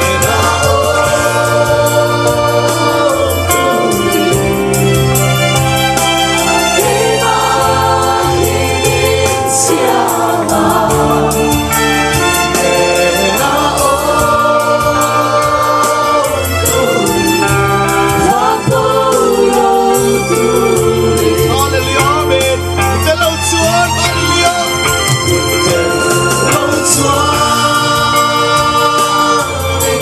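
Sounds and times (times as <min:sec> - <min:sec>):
group singing gospel with band: 0:00.0 - 0:30.0.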